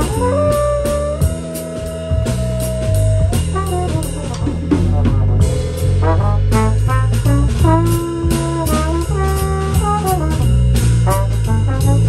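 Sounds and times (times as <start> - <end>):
drum strokes: 0.0 - 12.0
electric bass line: 0.0 - 12.0
trombone playing: 0.0 - 12.0.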